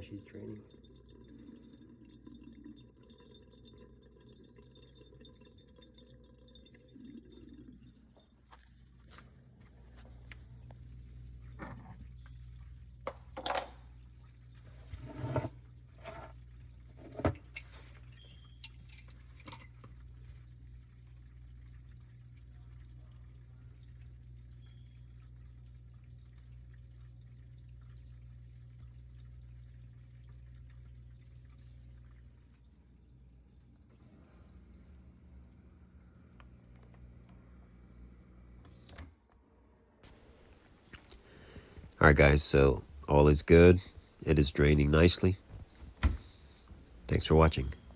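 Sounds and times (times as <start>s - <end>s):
dishwasher drain pump humming: 0.0s - 47.9s.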